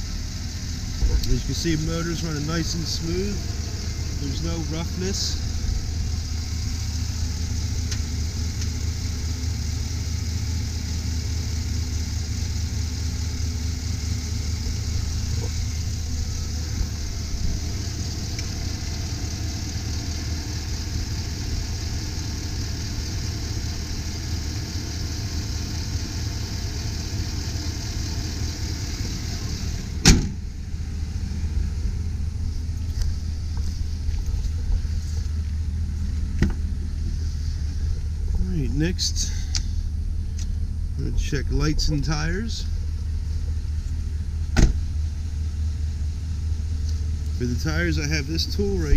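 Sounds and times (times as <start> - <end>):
truck engine idling: 0.0 - 48.9.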